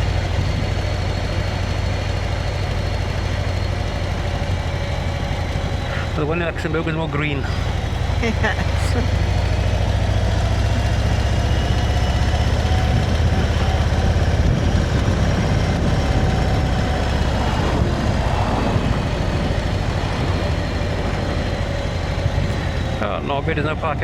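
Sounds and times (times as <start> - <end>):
motorcycle engine rumble: 0.0 - 24.0.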